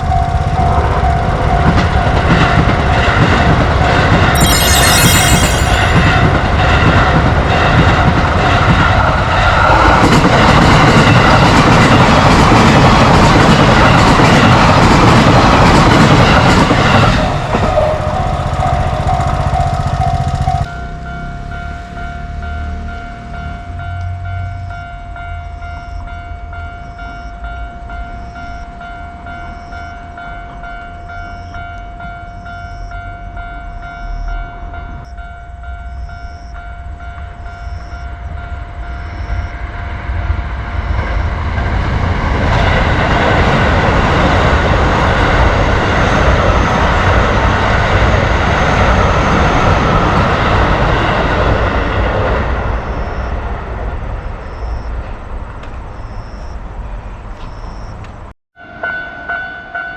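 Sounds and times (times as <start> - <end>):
train passing loudly: 0.0 - 59.9
crossing warning bell ringing: 4.3 - 55.1, 57.4 - 59.9.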